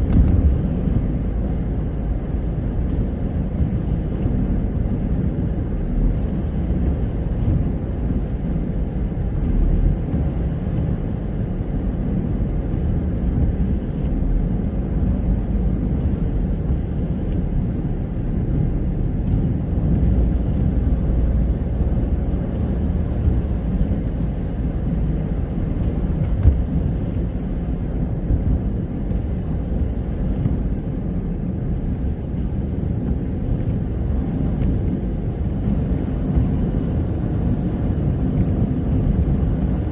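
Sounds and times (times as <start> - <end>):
car rumble on wet road: 0.0 - 39.9
rain: 0.0 - 39.9.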